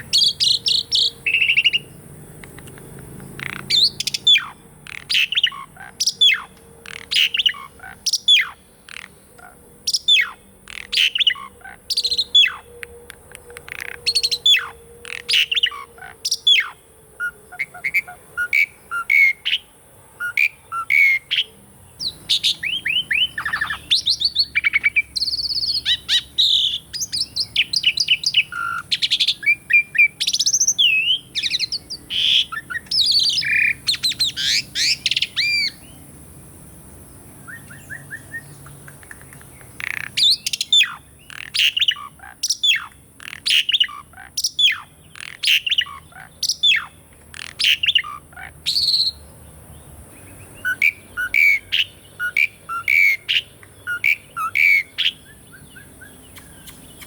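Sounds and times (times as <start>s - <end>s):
starling singing: 0.0s - 36.0s, 37.4s - 49.3s, 50.2s - 57.0s.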